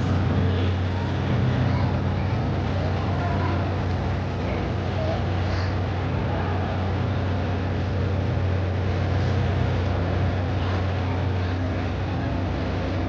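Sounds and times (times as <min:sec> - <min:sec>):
churning water: 0:00.0 - 0:13.0
riverboat machinery humming: 0:00.0 - 0:13.0.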